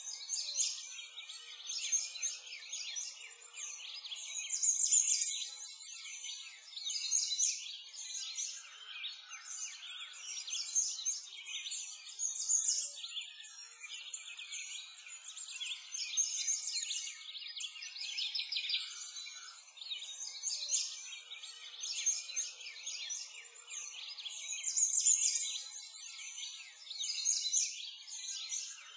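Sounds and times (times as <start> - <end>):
chorus of birds chirping: 0.0 - 28.9.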